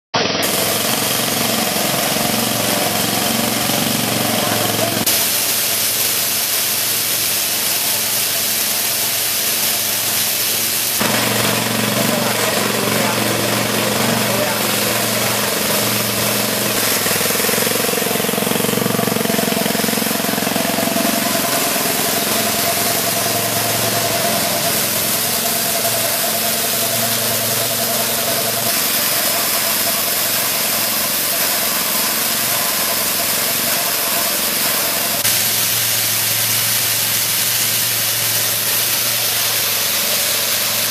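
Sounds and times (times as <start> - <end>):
diesel engine running: 0.2 - 40.9.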